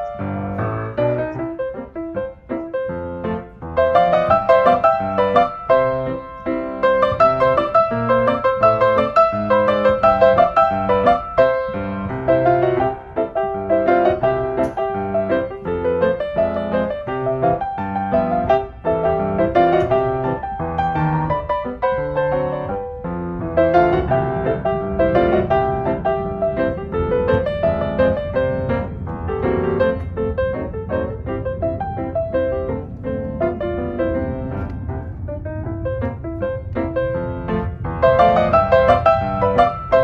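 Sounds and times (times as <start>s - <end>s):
piano music: 0.0s - 40.0s.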